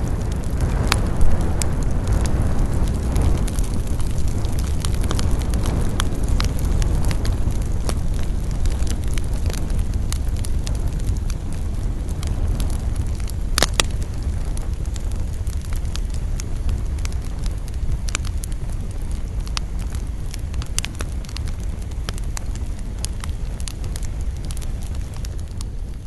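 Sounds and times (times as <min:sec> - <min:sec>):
flames rumbling: 0:00.0 - 0:26.0
wood crackling and popping: 0:00.0 - 0:26.0.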